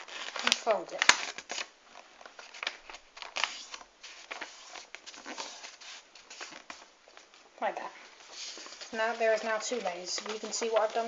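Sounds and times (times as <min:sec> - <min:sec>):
paper being folded and creased: 0:00.0 - 0:07.4, 0:08.2 - 0:11.0.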